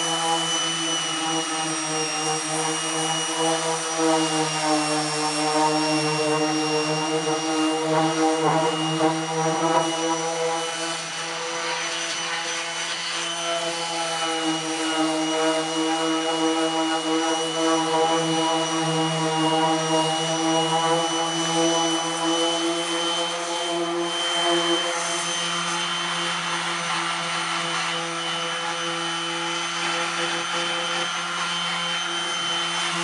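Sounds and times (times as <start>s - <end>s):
orbital sander whining: 0.0s - 33.0s.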